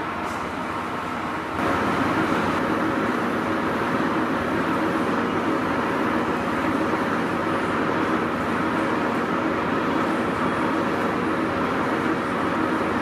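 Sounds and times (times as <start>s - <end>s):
boring machine humming: 1.5s - 13.0s.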